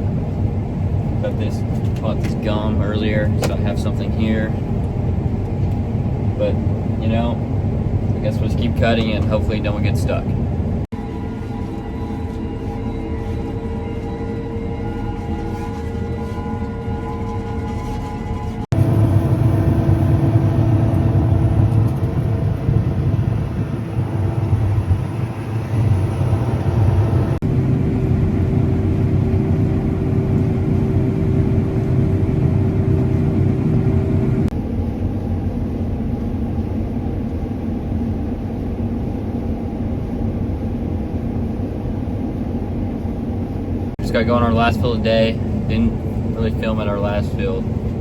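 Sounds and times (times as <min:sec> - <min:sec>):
machinery engine rumbling: 0:00.0 - 0:48.0.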